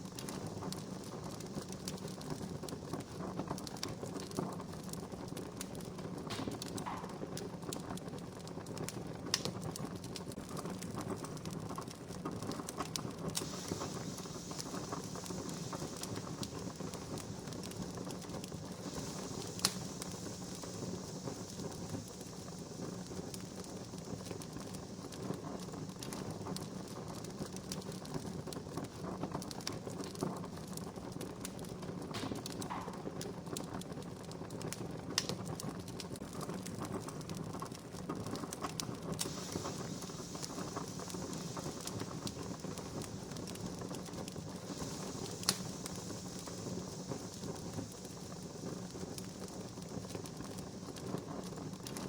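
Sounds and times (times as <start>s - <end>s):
campfire crackling: 0.0s - 52.0s
fire hissing: 0.0s - 52.0s.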